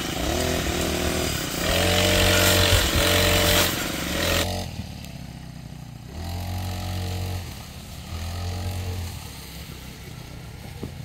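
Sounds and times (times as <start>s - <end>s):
brush cutter engine revving: 0.0s - 10.8s.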